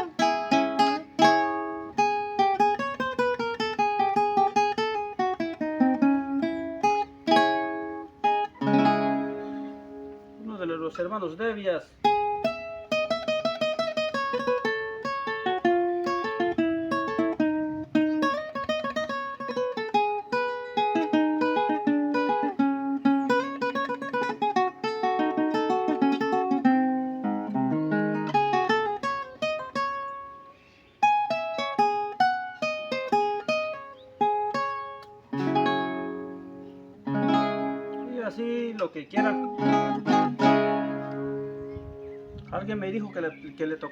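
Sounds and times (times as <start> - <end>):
strummed guitar chords: 0.0 - 10.5, 12.1 - 43.7
small nylon-string guitar picked melody: 0.0 - 43.9.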